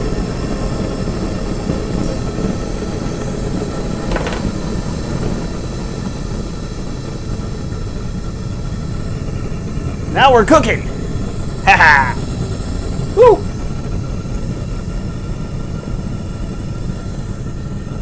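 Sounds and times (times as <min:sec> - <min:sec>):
forge burner gas rush: 0:00.1 - 0:18.0.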